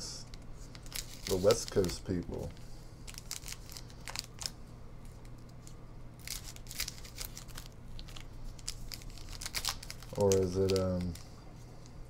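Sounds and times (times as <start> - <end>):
faint low hum: 0.0 - 12.0
foil card packs crinkling: 0.3 - 11.9.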